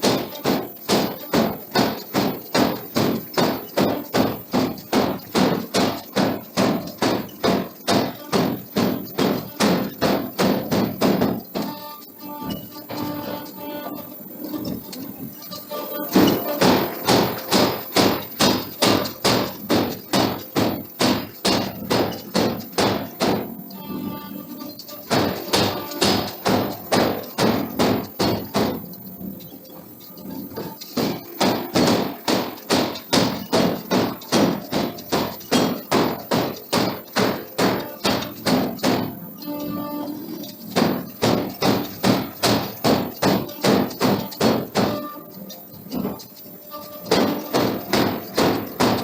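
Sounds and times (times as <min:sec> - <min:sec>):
forging hammer striking steel: 0:00.0 - 0:49.0.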